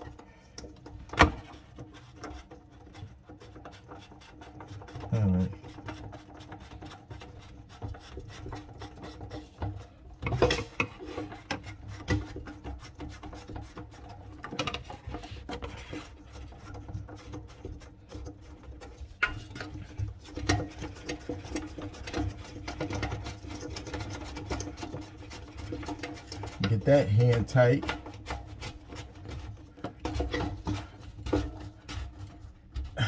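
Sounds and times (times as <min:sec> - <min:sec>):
plastic parts scraping and clicking: 0:00.0 - 0:33.0.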